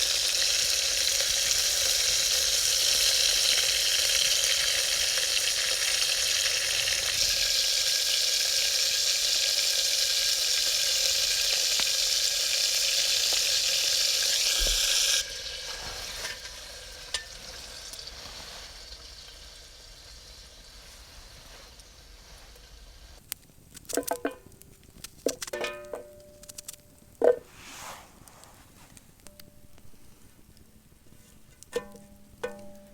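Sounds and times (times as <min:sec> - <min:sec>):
loud steady hiss: 0:00.0 - 0:28.0.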